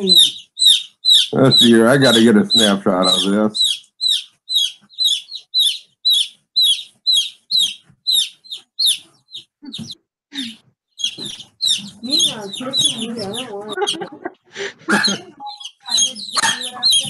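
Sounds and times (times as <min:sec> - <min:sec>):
baby chick peeping: 0:00.0 - 0:17.0.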